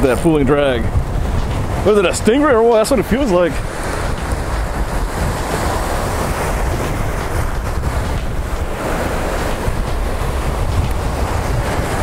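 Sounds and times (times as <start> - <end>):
surf breaking: 0.0 - 12.0
wind buffeting microphone: 0.0 - 12.0.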